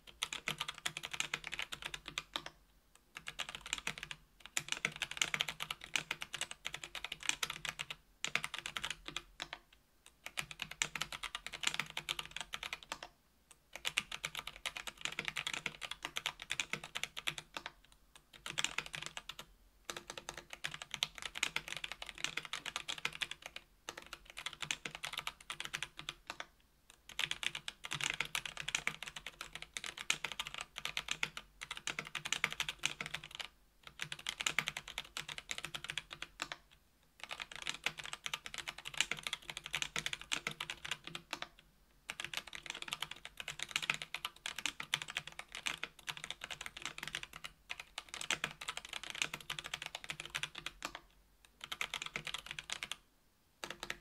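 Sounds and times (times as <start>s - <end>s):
fast typing on a keyboard: 0.1s - 2.6s, 3.2s - 13.1s, 13.7s - 53.0s, 53.6s - 54.0s.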